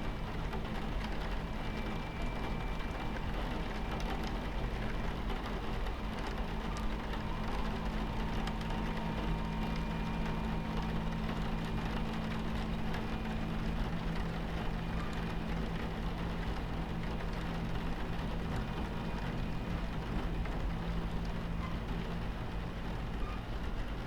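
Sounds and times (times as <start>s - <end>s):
moving train rumble: 0.0s - 24.0s
rain pattering on window: 0.0s - 24.0s.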